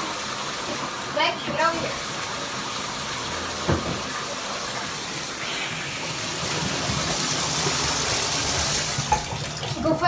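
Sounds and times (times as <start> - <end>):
tap water running into bathtub: 0.0 - 10.0.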